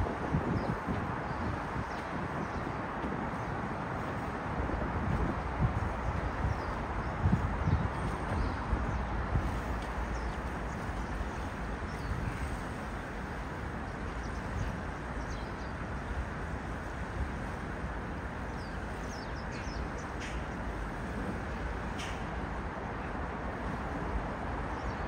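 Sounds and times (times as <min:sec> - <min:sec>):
city traffic rumble: 0:00.0 - 0:25.0
wind: 0:00.0 - 0:25.0.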